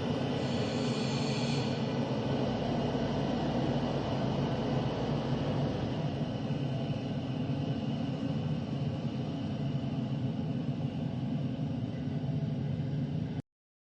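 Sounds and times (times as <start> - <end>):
low rumble of train: 0.0 - 13.4.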